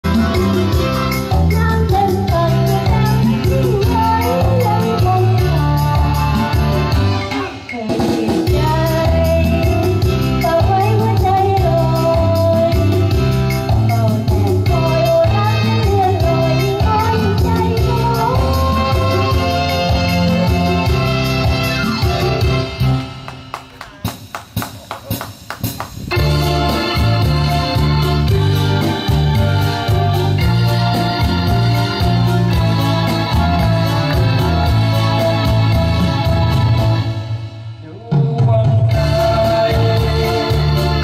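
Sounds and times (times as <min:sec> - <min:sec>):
background music with bass line: 0:00.0 - 0:41.0.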